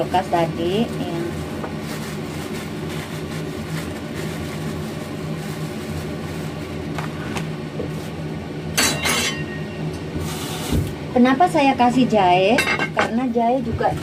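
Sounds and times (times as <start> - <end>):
kitchen appliance hum: 0.0 - 14.0.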